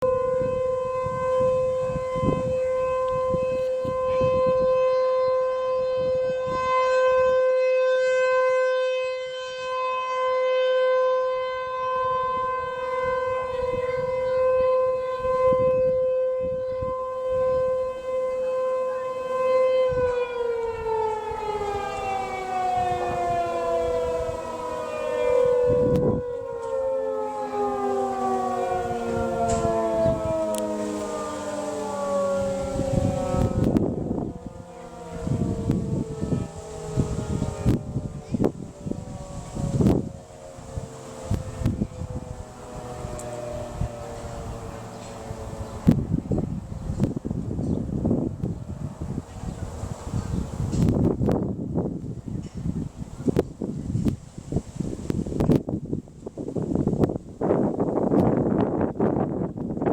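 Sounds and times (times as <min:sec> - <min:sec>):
warning siren: 0:00.0 - 0:59.9.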